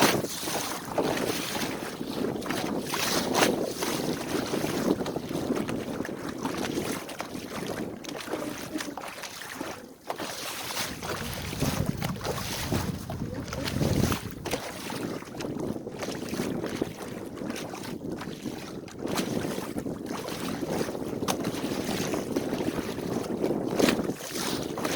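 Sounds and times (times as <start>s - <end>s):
wind buffeting the microphone: 0.0s - 9.9s, 10.5s - 24.9s
water rushing along a hull: 0.0s - 24.9s.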